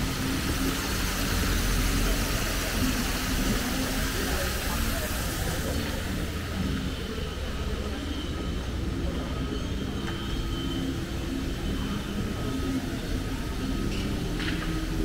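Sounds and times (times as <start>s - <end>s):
faint steady whining tones: 0.0s - 15.0s.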